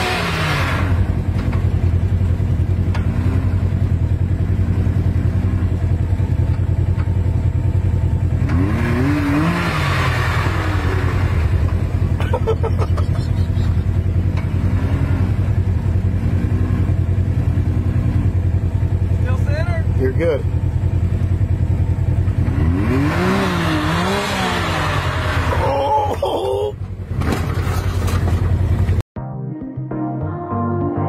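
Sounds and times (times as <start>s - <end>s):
utility vehicle engine revving: 0.0s - 29.0s.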